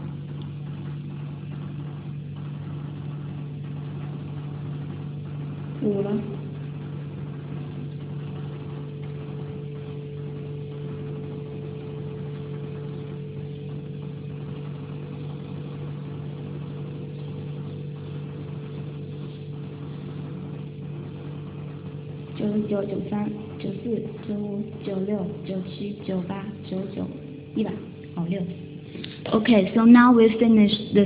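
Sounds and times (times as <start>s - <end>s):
steady motor hum: 0.0s - 31.0s.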